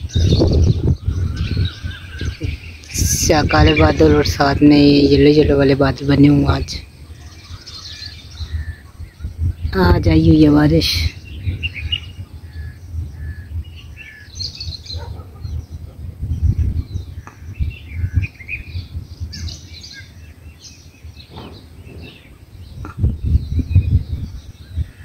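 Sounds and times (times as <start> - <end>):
birds chirping: 0.0 - 25.0
wind rumble on microphone: 0.0 - 25.0.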